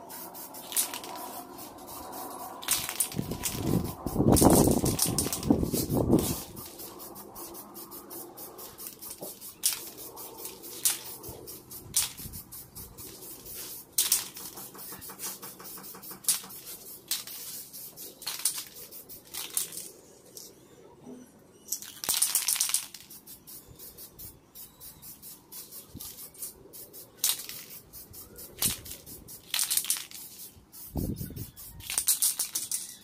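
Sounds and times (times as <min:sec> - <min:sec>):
spray can hissing: 0:00.0 - 0:19.9, 0:22.1 - 0:33.0
spray can ball rattling: 0:00.0 - 0:20.5, 0:21.7 - 0:33.0.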